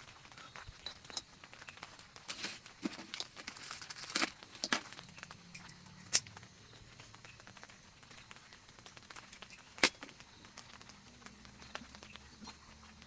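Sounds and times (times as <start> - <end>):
sharp cracks: 0.0 - 13.0.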